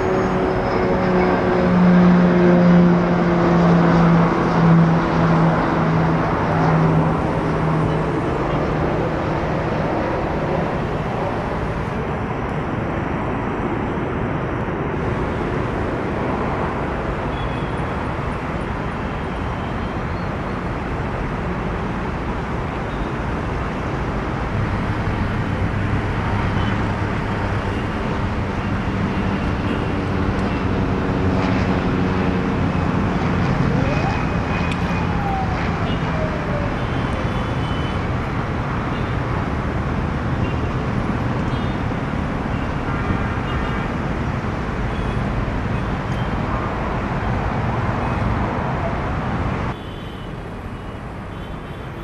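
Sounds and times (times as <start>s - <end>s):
outdoor vehicle noise: 0.0s - 52.0s.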